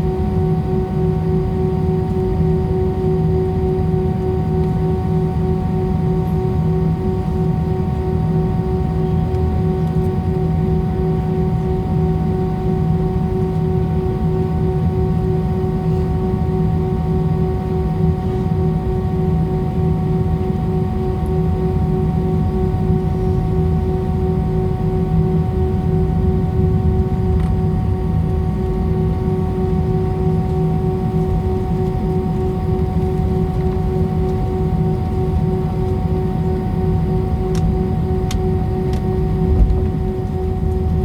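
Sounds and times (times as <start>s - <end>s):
airliner cabin rumble: 0.0s - 41.0s
jet engine whine: 0.0s - 41.0s.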